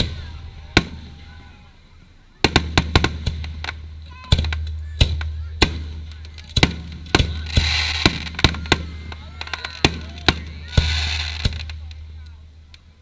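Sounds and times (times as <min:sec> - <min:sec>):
fireworks bursting: 0:00.0 - 0:13.0
hissing crackle: 0:00.0 - 0:13.0.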